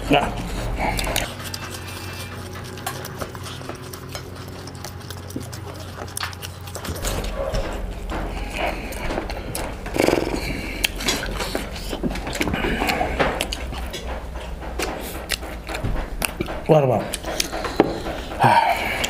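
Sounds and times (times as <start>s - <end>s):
chewing and mouth clicks: 0.0s - 19.0s
swallowing sounds: 0.0s - 19.0s.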